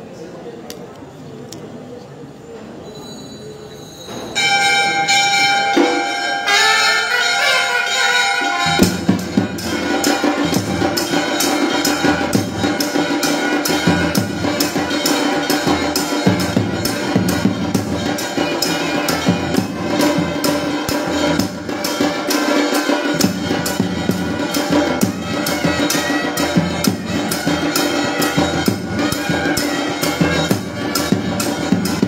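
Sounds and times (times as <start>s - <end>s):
drums and percussion beat: 4.1s - 32.0s
temple bells ringing: 4.1s - 32.0s.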